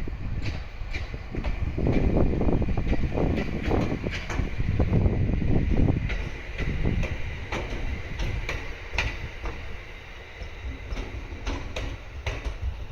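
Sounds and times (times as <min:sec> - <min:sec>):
train running past: 0:00.0 - 0:12.9
wheels clicking over rail joints: 0:00.0 - 0:12.9.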